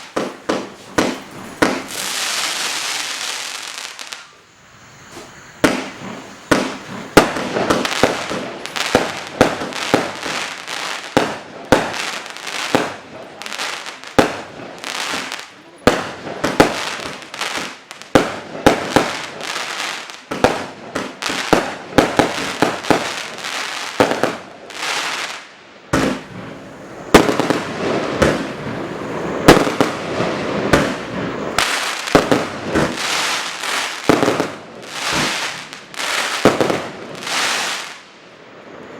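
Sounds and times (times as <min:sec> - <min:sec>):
fireworks bangs: 0:00.0 - 0:38.9
fireworks hiss: 0:00.0 - 0:38.9.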